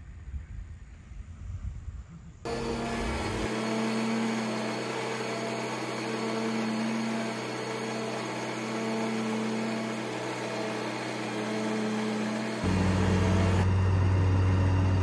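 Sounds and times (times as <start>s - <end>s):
mower engine humming: 2.5s - 15.0s.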